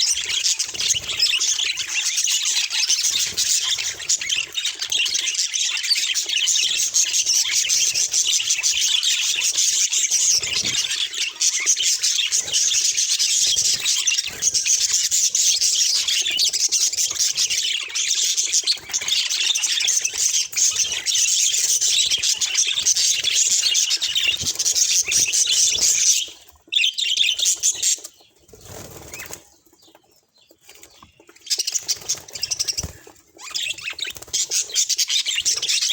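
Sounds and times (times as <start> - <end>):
budgerigars chattering: 0.0 - 35.9.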